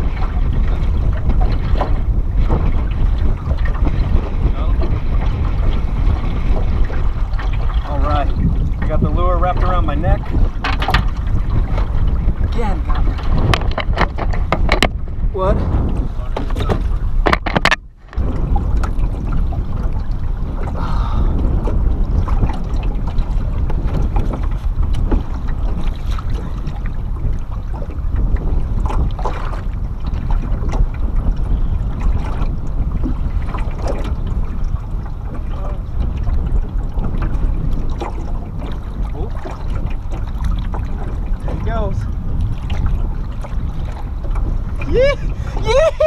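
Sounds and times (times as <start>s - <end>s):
water slapping against boat: 0.0s - 46.0s
wind buffeting microphone: 0.0s - 46.0s.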